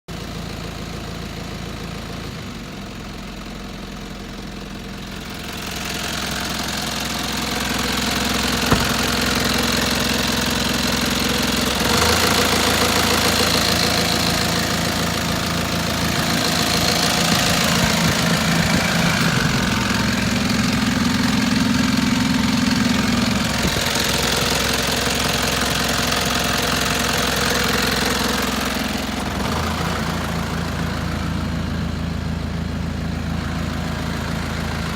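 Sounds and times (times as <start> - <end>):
truck engine running: 2.8 - 34.9.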